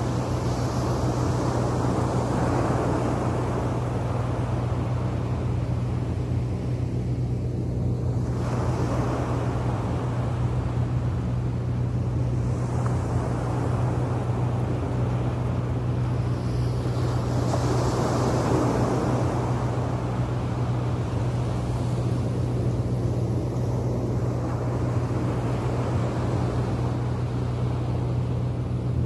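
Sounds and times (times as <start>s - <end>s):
constant low hum: 0.0s - 29.0s
small waves breaking on beach: 0.0s - 29.0s.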